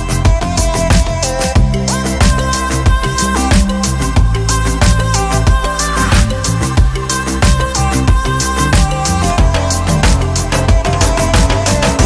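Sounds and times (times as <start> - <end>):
music with fast drum beat: 0.0 - 12.0.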